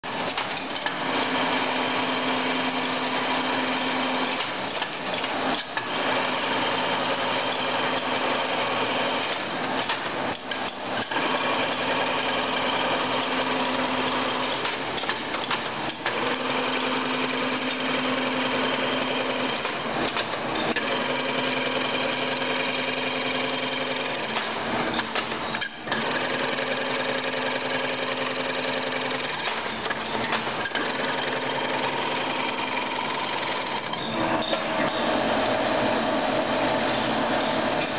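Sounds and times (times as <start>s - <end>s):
machine mechanical clatter: 0.1s - 2.3s, 2.9s - 6.2s, 7.6s - 11.9s, 12.8s - 18.3s, 19.0s - 35.2s.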